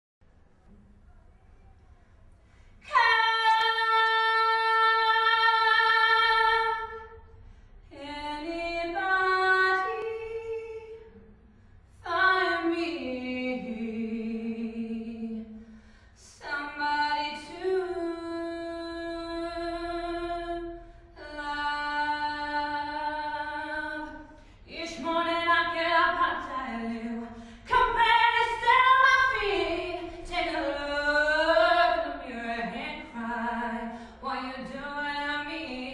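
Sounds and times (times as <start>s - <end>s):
woman singing unaccompanied: 2.9s - 7.2s, 7.9s - 11.1s, 12.0s - 15.6s, 16.2s - 35.9s.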